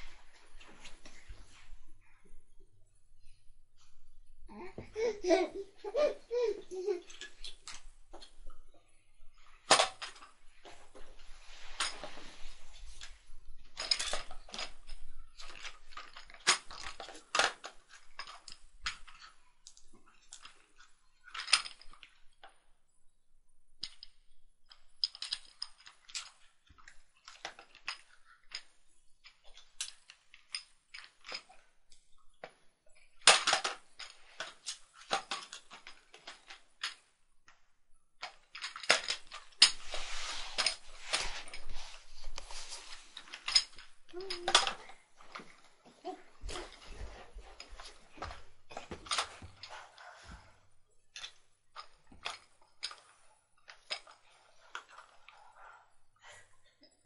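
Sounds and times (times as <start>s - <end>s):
plastic toys knocking and clattering: 4.8s - 22.6s, 23.7s - 50.5s, 51.1s - 55.3s.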